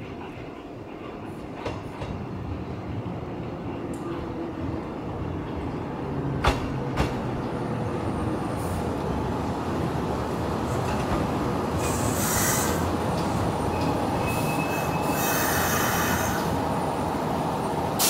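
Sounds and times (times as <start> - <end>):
electric train rumble: 0.0 - 18.0.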